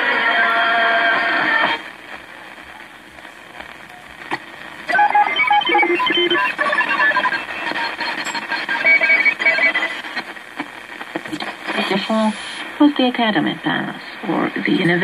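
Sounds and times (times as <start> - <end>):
faint radio static: 0.0 - 15.0.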